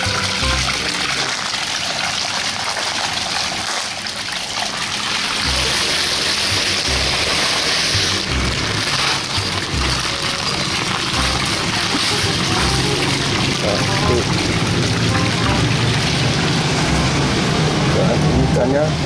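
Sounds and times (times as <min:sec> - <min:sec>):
water bubbling and splashing: 0:00.0 - 0:18.0.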